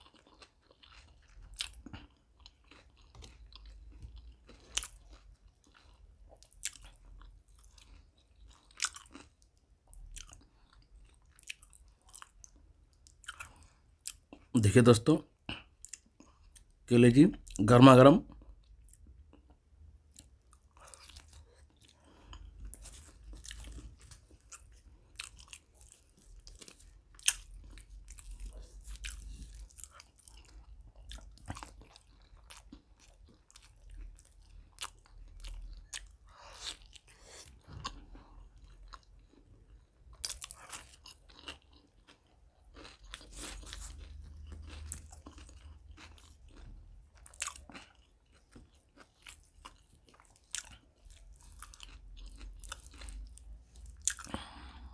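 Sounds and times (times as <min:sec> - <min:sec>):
person chewing: 0:00.0 - 0:14.6, 0:15.3 - 0:17.6, 0:18.3 - 0:54.9.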